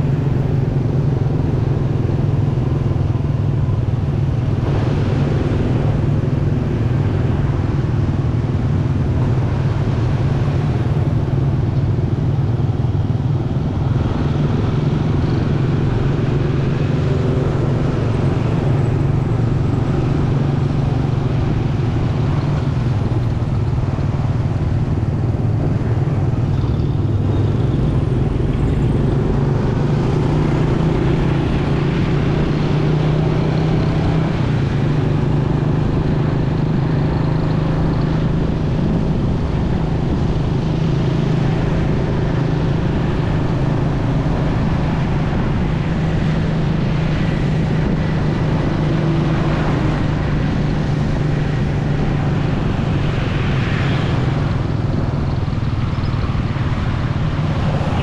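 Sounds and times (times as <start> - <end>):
motorcycle engine running: 0.0 - 58.0
road and traffic noise: 0.0 - 58.0.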